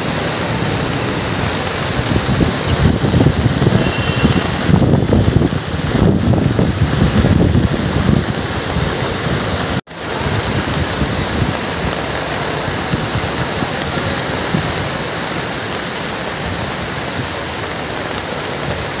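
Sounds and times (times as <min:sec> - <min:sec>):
water rushing: 0:00.0 - 0:19.0
wind buffeting microphone: 0:00.0 - 0:19.0.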